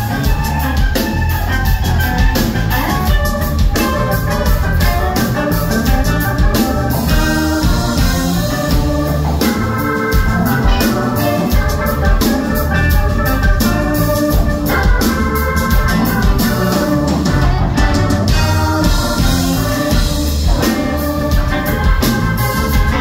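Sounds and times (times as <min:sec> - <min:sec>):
drum kit: 0:00.0 - 0:23.0
organ chords: 0:00.0 - 0:23.0.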